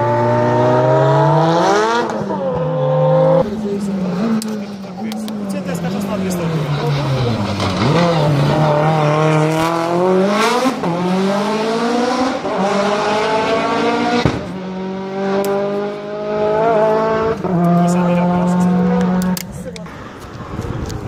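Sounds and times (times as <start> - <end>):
car engine accelerating hard: 0.0 - 19.4.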